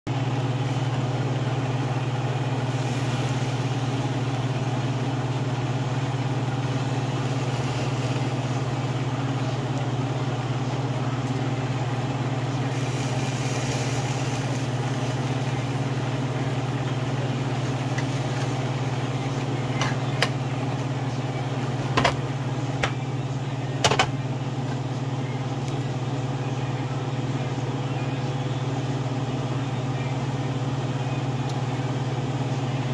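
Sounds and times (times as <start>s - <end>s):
low mechanical hum: 0.1s - 32.9s.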